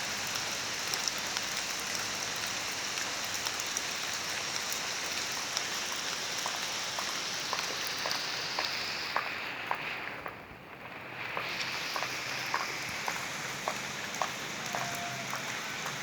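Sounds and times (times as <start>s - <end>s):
rain hissing: 0.0s - 10.2s, 10.8s - 16.0s
raindrops tapping: 0.0s - 16.0s.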